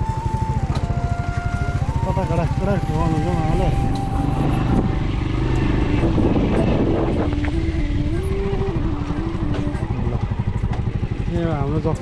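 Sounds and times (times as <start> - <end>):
small motorbike engine revving: 0.0 - 12.0.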